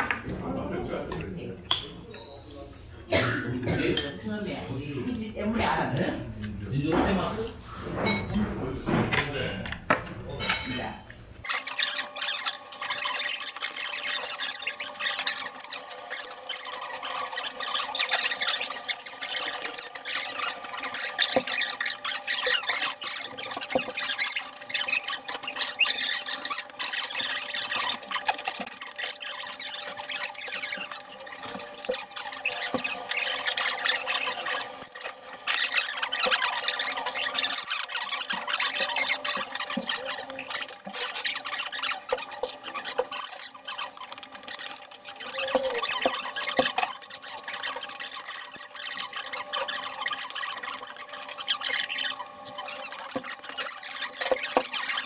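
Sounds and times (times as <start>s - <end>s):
metal spoon scraping ceramic bowl: 7.2s - 55.0s.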